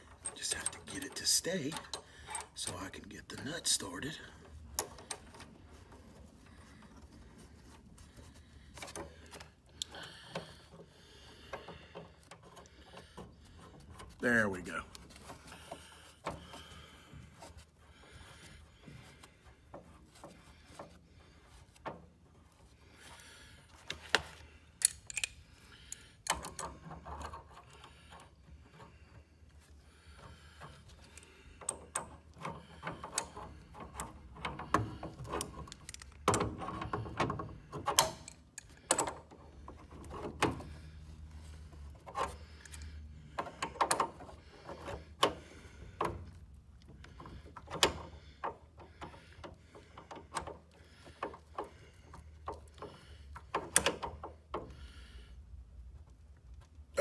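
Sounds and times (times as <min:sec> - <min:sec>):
wrenches clicking and scraping metal: 0:00.0 - 0:55.2.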